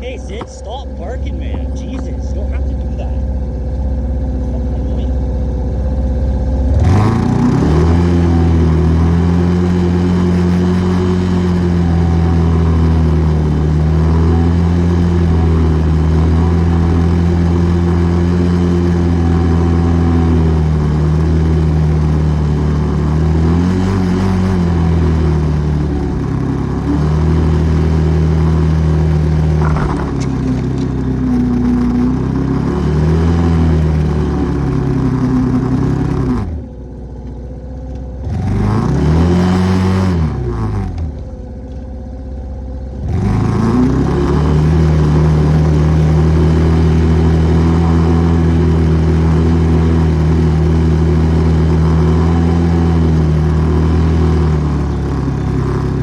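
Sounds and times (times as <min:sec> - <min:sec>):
atv engine idling and revving: 0:00.0 - 0:56.0.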